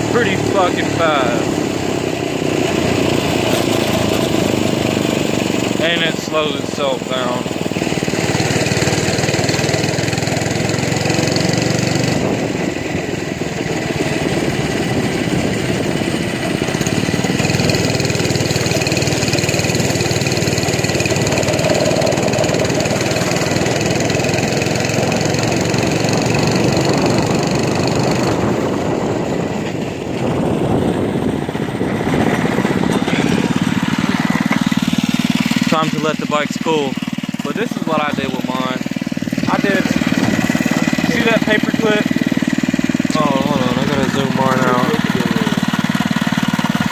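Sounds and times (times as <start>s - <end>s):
small motorbike engine running: 0.0s - 46.9s.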